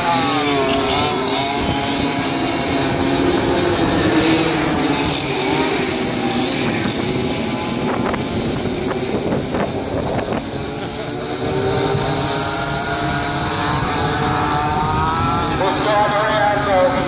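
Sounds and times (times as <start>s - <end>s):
racing kart engines revving: 0.0s - 17.0s.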